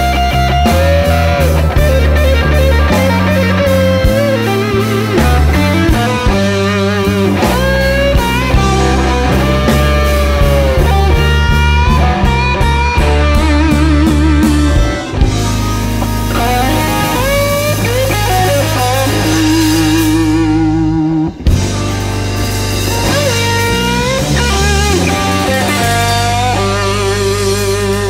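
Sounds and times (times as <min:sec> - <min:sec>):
bass line: 0:00.0 - 0:28.0
electric guitar sustained notes: 0:00.0 - 0:28.0
ticking beat: 0:00.0 - 0:28.0.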